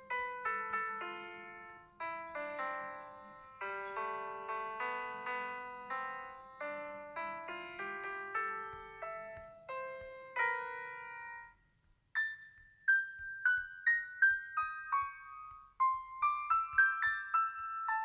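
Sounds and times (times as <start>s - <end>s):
piano playing single notes: 0.0s - 18.0s.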